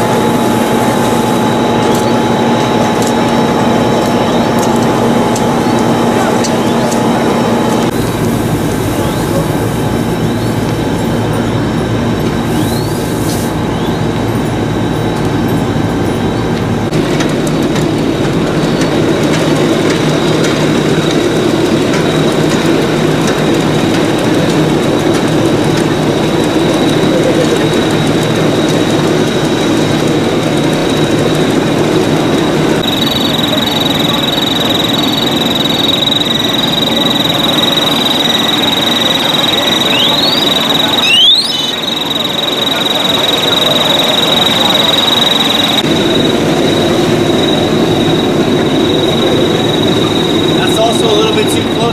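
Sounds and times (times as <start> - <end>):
fire engines and pumps running: 0.0 - 51.9
steady high whine: 0.0 - 51.9.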